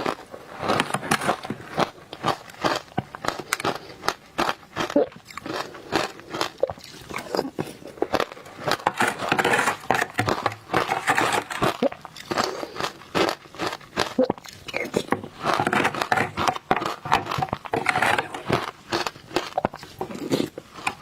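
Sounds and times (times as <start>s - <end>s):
crunchy ice chewing: 0.0s - 21.0s.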